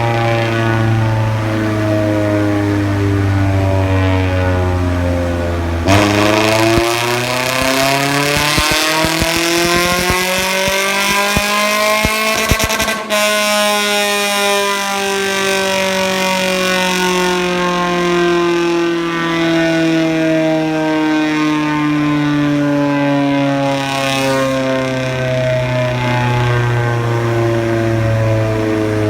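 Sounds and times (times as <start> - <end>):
car engine revving through exhaust: 0.0 - 29.0
exhaust crackles: 0.0 - 29.0.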